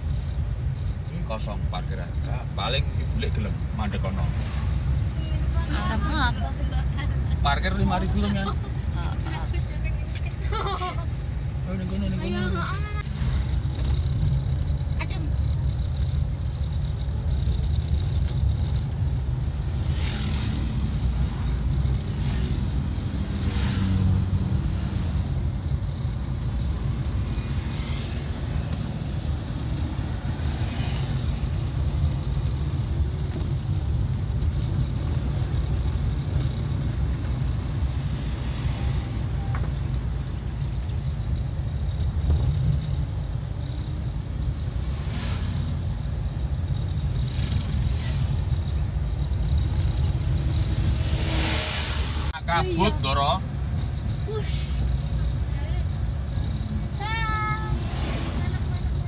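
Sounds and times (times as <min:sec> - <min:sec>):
car engine running: 0:00.0 - 0:59.0
road noise: 0:00.0 - 0:59.0.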